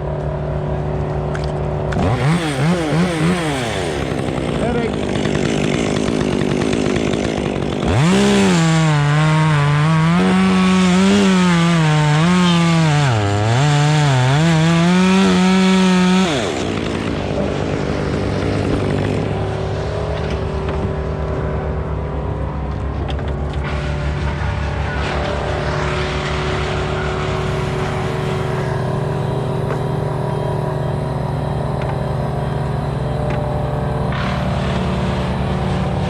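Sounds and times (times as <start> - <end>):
chainsaw cutting wood: 1.2 - 21.4, 23.0 - 36.0.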